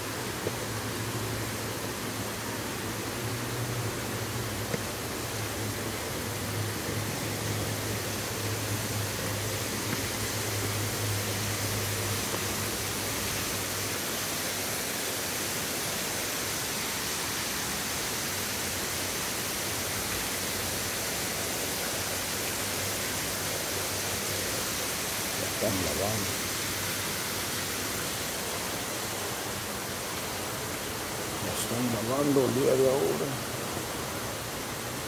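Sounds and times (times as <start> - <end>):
rushing falling water: 0.0 - 35.0.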